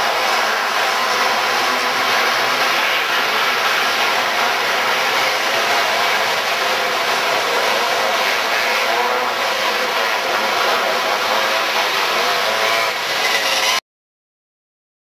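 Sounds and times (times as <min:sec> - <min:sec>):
racing kart engines droning: 0:00.0 - 0:13.8.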